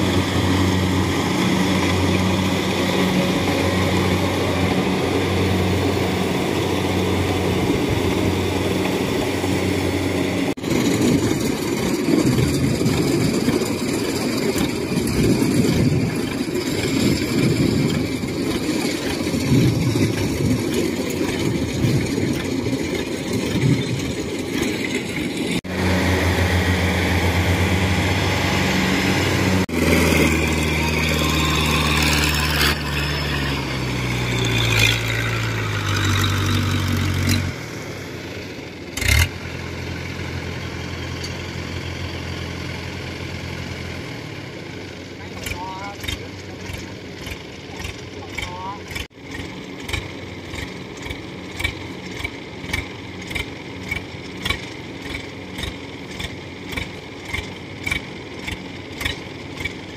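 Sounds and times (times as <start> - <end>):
harvester engines running: 0.0 - 59.9.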